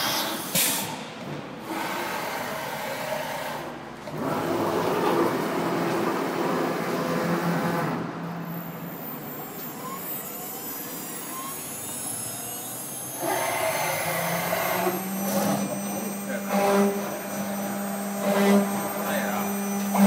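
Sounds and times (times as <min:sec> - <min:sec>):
router machine drone with whine: 0:01.7 - 0:20.0.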